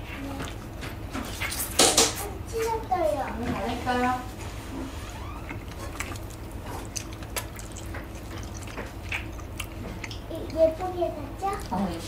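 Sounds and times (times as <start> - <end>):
steady low hum: 0.0 - 12.0
wet chewing: 0.0 - 12.0.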